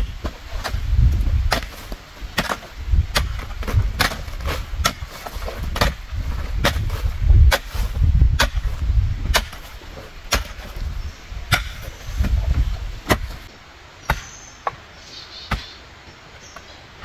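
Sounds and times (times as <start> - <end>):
hoe chopping stony soil: 0.0 - 14.8, 15.5 - 15.8.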